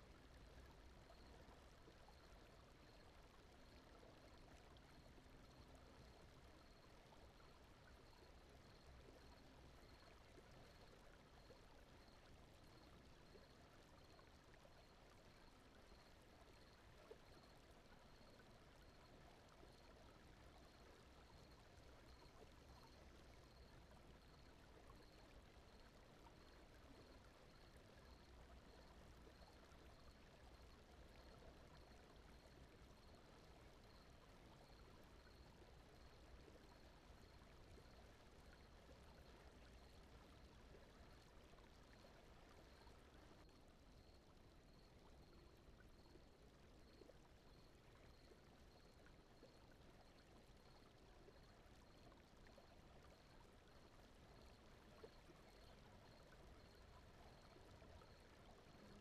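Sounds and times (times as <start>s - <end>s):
faint steady background noise: 0.0s - 59.0s.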